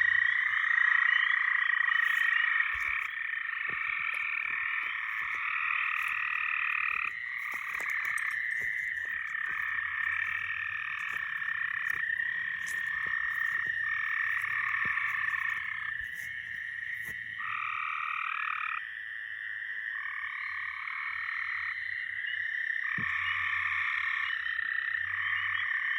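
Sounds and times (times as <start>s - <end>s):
frogs calling: 0.0s - 25.9s.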